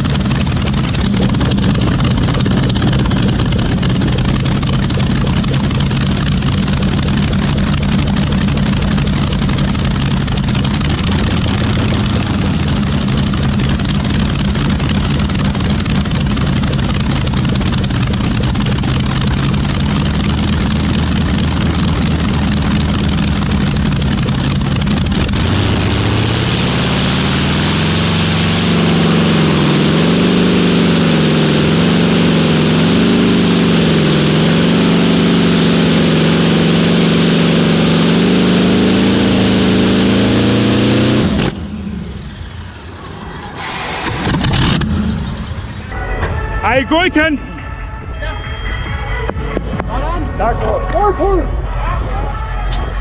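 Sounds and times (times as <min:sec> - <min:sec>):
tractor engine revving: 0:00.0 - 0:47.4.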